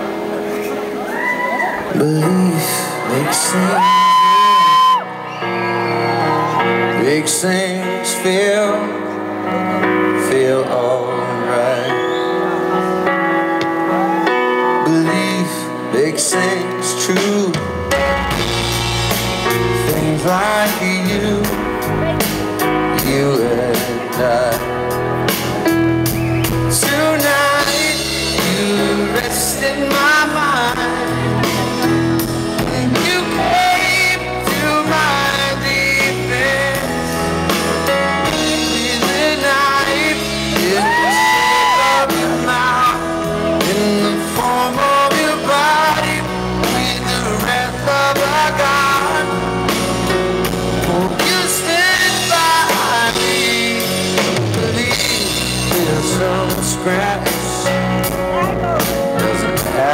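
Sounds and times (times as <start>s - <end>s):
live pop-rock band: 0.0s - 59.9s
sliding lead melody: 0.0s - 59.9s.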